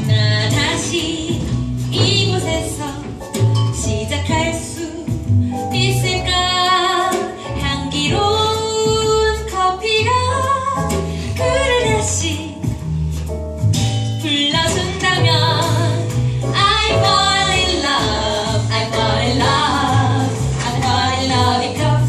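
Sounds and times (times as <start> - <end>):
woman singing: 0.0 - 12.8, 14.2 - 22.0
piano accompaniment: 0.0 - 22.0.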